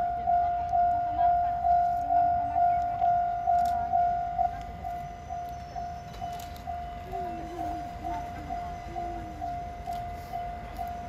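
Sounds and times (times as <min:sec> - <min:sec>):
level crossing warning bell: 0:00.0 - 0:11.0.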